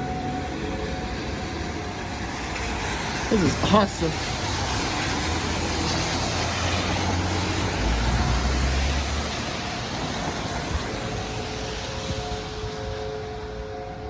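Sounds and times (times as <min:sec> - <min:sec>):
vehicle engine hum: 0:00.0 - 0:13.1
distant tornado sirens: 0:00.0 - 0:14.0
road traffic going by: 0:00.0 - 0:14.0.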